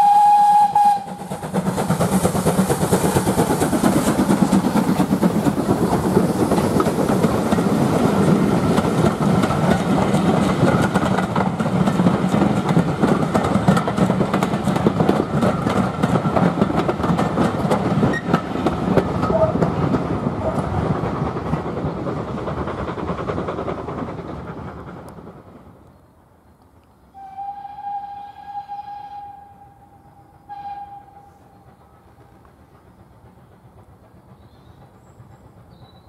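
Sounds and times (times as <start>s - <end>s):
train wheels clicking over rail joints: 0.0s - 27.0s, 29.9s - 36.0s
steam locomotive exhaust beats: 0.0s - 36.0s.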